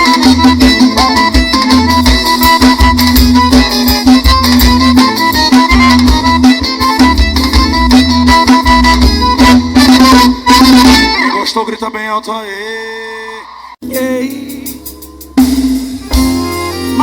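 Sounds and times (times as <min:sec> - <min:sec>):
bass line: 0:00.0 - 0:11.4, 0:13.8 - 0:17.0
live band music: 0:00.0 - 0:11.8, 0:13.8 - 0:17.0.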